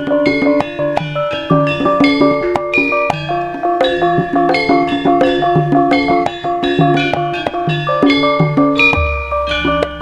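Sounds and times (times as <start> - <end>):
gong-chime and metallophone notes: 0.0 - 10.0.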